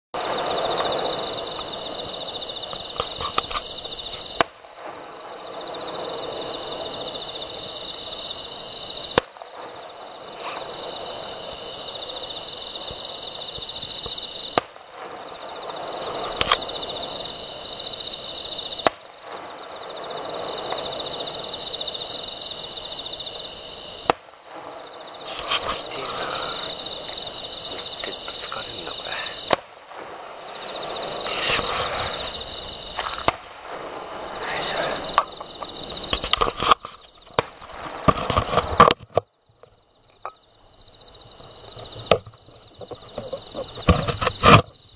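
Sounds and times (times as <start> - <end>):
distant fireworks bangs: 0.2 - 39.0
insects chirring: 0.2 - 44.9.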